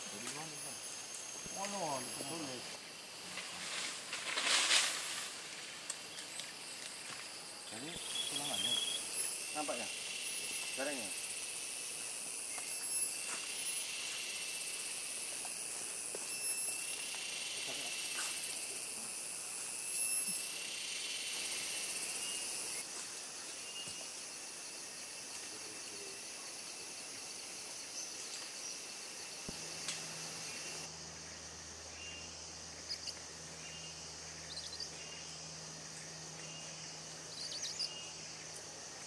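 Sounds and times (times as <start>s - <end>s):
higher insect buzz: 0.0s - 39.0s
insect chorus buzzing: 0.0s - 39.0s.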